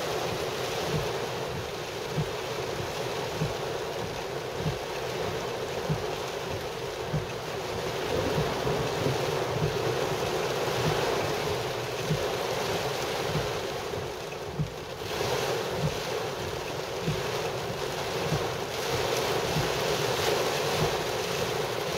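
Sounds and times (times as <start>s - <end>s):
heavy rain on car roof: 0.0s - 21.9s
tyres splashing on flooded road: 0.0s - 21.9s.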